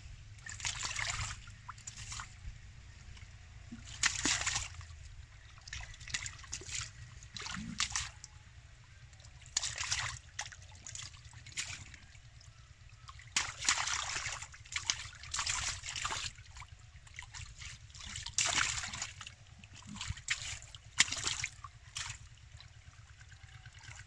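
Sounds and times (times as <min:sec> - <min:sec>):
muddy water splashing: 0:00.1 - 0:24.0.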